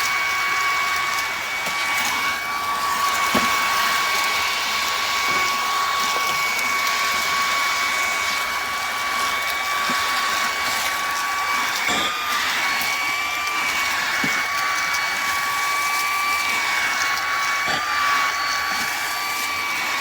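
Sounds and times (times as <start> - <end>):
stick vacuum running: 0.0 - 20.0.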